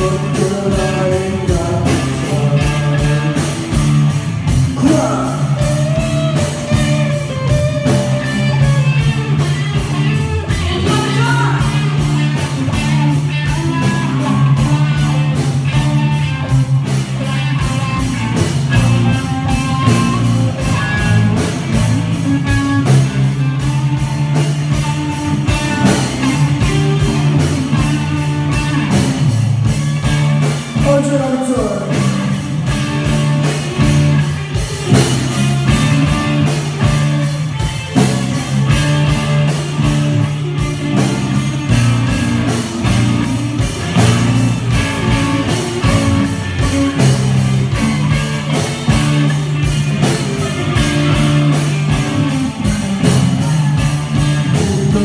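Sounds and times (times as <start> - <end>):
electric guitar riff: 0.0 - 55.0
steady drum beat: 0.0 - 55.0.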